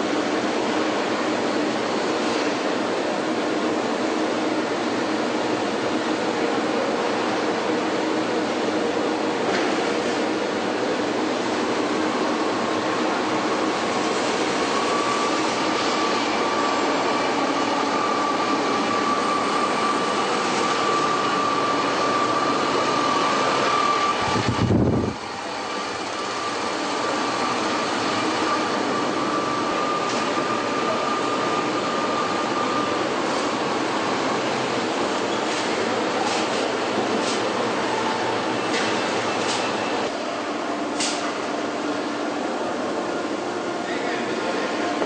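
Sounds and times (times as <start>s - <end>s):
factory machinery noise: 0.0s - 45.0s
thin steady whine: 0.0s - 45.0s.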